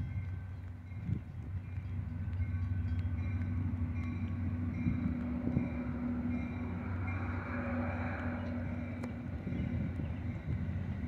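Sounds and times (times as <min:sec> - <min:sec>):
crossing warning bell ringing: 0:00.0 - 0:11.0
diesel train rolling past: 0:00.0 - 0:11.0.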